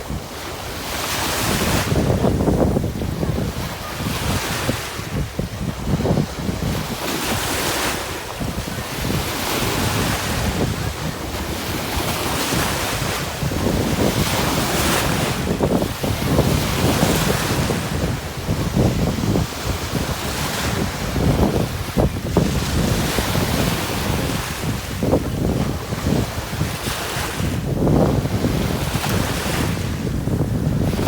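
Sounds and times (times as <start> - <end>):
ocean surf breaking: 0.0 - 31.0.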